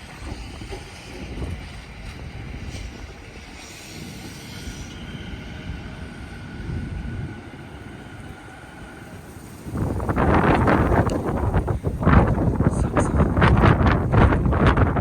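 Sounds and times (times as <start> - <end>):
train crossing bridge rumble: 0.0 - 15.0
wind buffeting microphone: 0.0 - 15.0.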